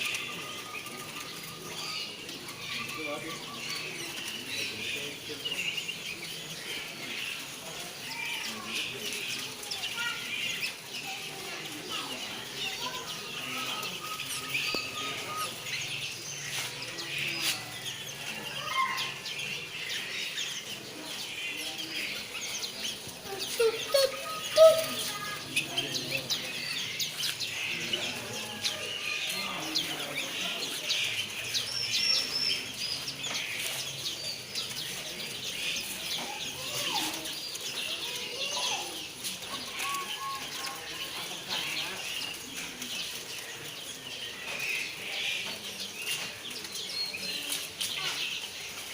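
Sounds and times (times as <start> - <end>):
caged birds chirping: 0.0 - 48.9.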